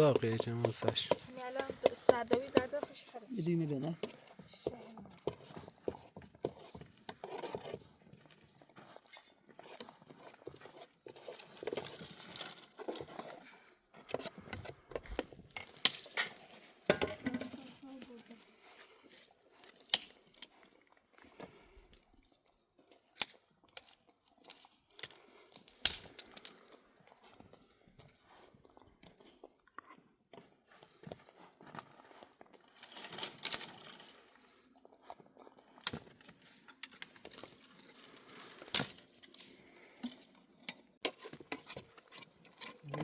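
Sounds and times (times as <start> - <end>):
high-pitched insect trill: 0.0 - 43.0.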